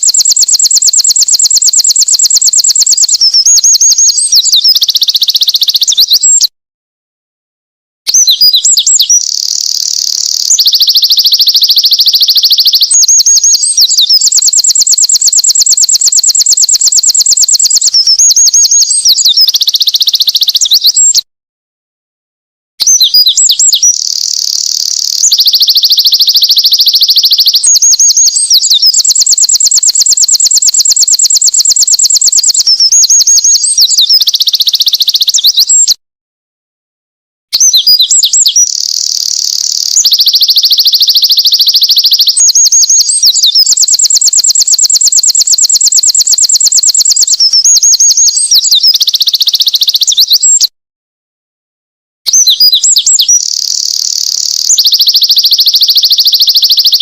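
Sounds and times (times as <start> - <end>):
wren singing trills: 0.0 - 6.5, 8.1 - 21.2, 22.8 - 36.0, 37.5 - 50.7, 52.3 - 57.0.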